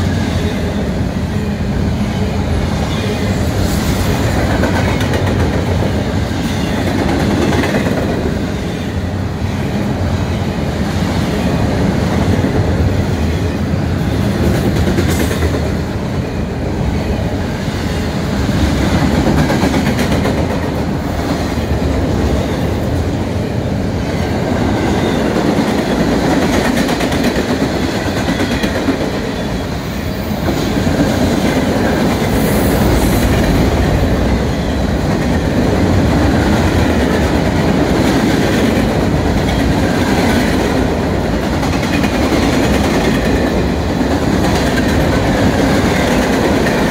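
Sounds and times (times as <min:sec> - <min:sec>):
train wheels running on rails: 0:00.0 - 0:46.9.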